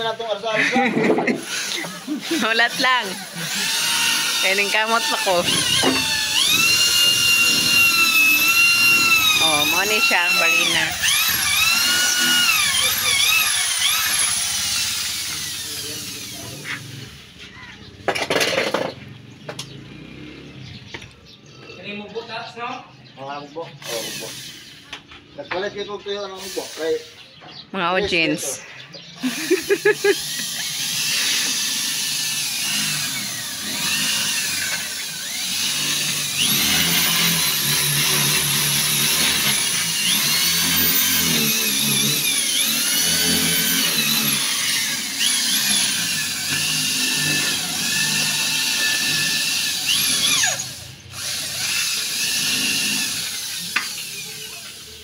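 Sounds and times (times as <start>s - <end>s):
electric drill boring into concrete: 0.0s - 17.5s, 23.8s - 25.1s, 26.3s - 27.2s, 29.2s - 55.0s.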